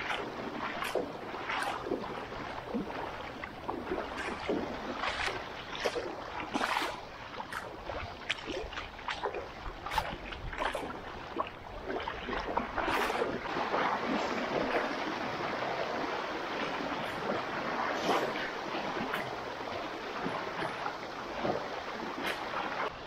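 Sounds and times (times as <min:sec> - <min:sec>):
river water rushing: 0:00.0 - 0:23.0
wading splashes in water: 0:00.0 - 0:23.0.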